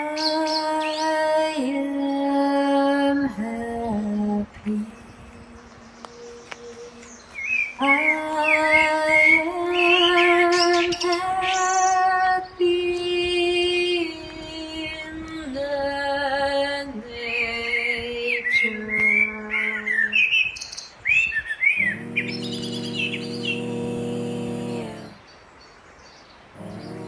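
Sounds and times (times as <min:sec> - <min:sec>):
birds chirping faintly: 0:00.0 - 0:27.0.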